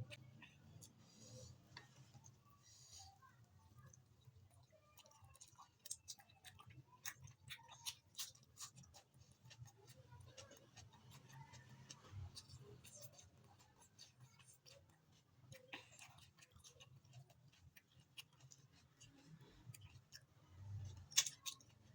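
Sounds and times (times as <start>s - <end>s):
chewing food with clicks: 0.0s - 2.6s, 3.2s - 21.9s.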